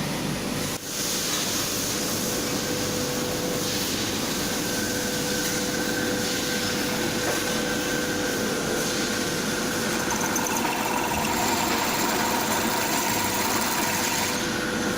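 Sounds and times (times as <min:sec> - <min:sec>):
drill press motor hum and whine: 0:00.0 - 0:14.9.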